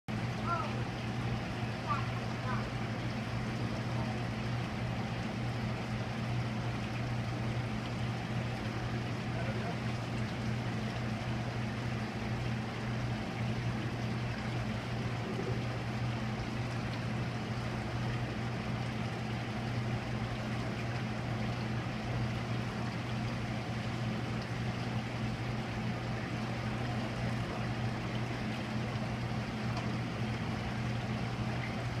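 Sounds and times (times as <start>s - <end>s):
aquarium pumps humming: 0.1s - 32.0s.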